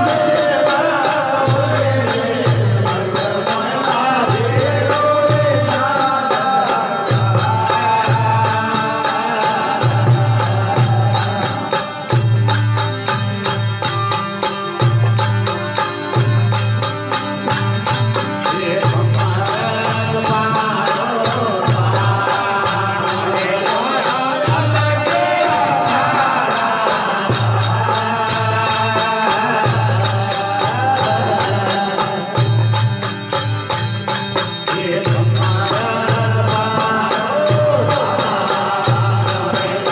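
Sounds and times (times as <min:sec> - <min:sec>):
jingling percussion: 0:00.0 - 0:39.9.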